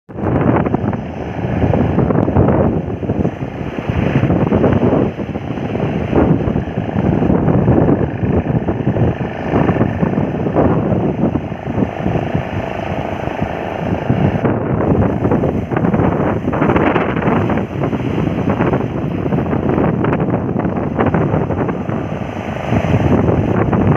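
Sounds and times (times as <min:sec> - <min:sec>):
boat rushing on water: 0:00.1 - 0:23.9
wind buffeting microphone: 0:00.1 - 0:23.9.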